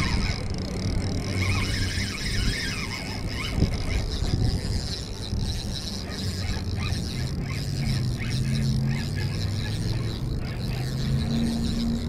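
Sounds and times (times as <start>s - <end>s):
fishing reel cranking: 0.0s - 12.0s
steady low hum: 0.0s - 12.0s.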